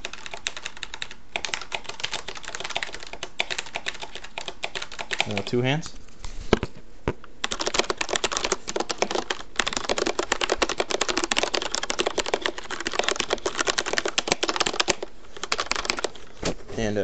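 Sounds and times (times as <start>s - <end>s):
typing on mechanical keyboard: 0.0s - 5.6s, 7.4s - 16.2s.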